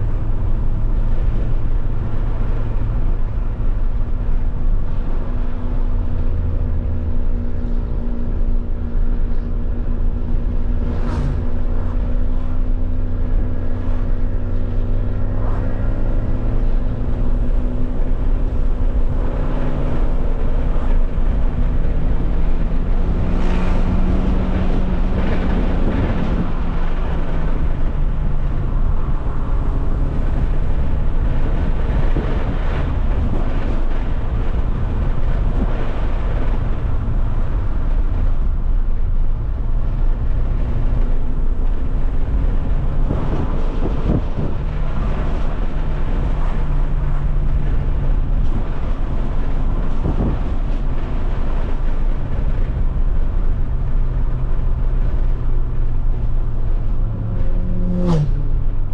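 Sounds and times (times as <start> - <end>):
car engine running: 0.0 - 58.9
road and wind noise: 0.0 - 58.9.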